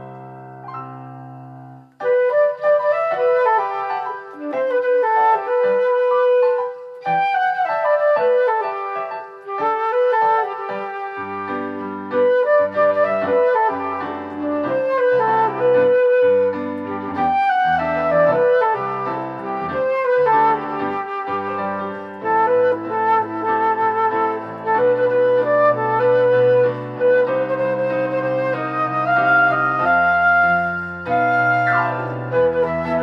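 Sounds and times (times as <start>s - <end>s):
flute melody: 1.8s - 33.0s.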